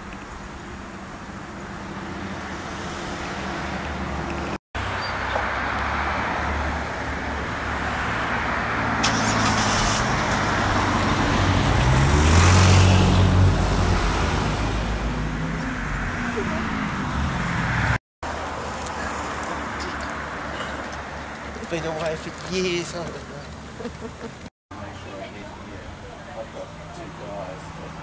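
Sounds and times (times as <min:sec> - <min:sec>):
road traffic passing: 0:00.0 - 0:28.0
vehicle passing close: 0:00.7 - 0:24.5.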